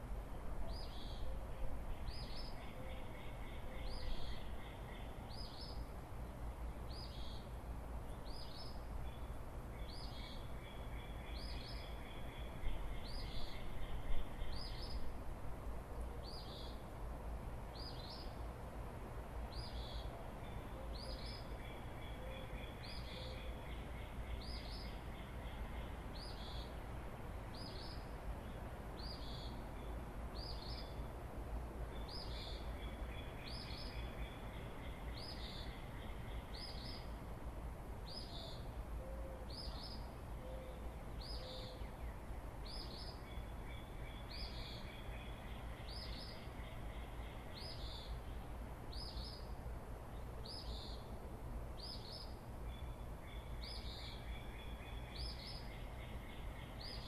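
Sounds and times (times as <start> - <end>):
low rumble of breeze: 0.0 - 57.0
fainter birds singing: 0.6 - 15.2, 16.2 - 16.9, 17.7 - 18.4, 19.4 - 31.1, 31.9 - 37.2, 38.0 - 57.0.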